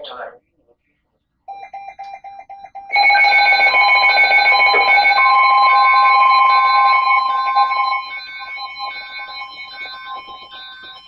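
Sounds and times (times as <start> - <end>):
multi-tone alarm: 1.5 - 11.0
short electronic beeps: 1.5 - 11.0
steady warning tone: 1.5 - 11.0.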